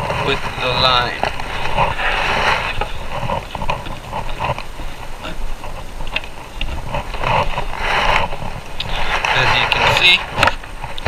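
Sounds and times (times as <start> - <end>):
wooden panels scraping: 0.0 - 11.0.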